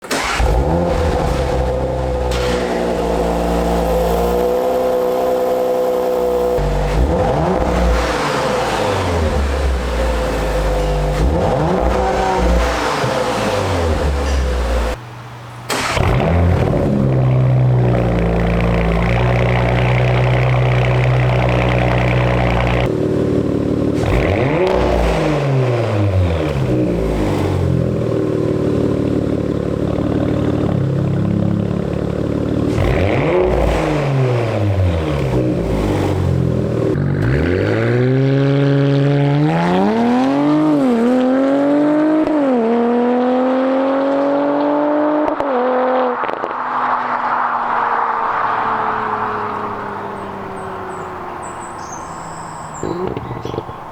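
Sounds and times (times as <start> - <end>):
car engine revving and accelerating: 0.0 - 15.0, 15.7 - 53.9.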